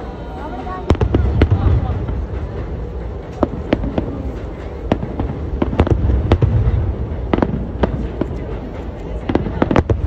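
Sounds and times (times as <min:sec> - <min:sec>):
fireworks bursting: 0:00.0 - 0:10.0
low rumble: 0:00.0 - 0:10.0.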